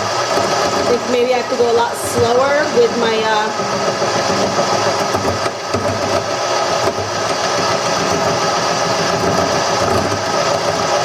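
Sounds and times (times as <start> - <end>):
gouge scraping spinning wood: 0.0 - 11.0
lathe motor hum: 0.0 - 11.0.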